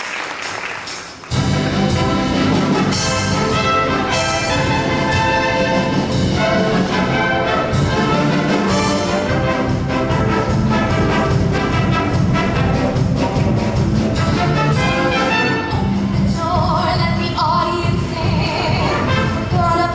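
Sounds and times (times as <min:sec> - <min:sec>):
percussion hits: 0:00.4 - 0:16.8
brass band playing: 0:01.3 - 0:17.0, 0:17.9 - 0:19.9.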